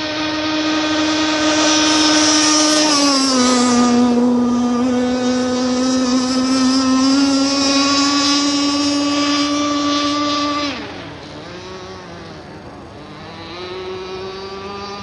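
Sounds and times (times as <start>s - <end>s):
rc boat high-pitched whine: 0.0s - 15.0s.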